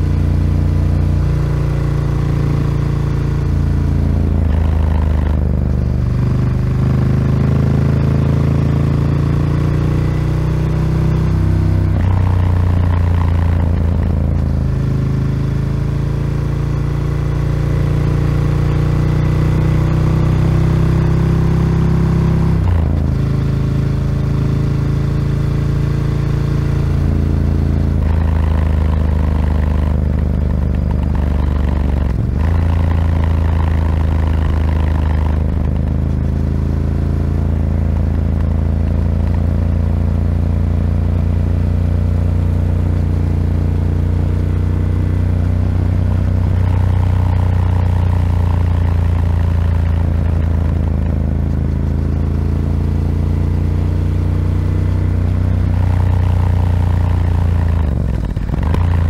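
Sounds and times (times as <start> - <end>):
motorcycle engine revving while riding: 0.0 - 59.0.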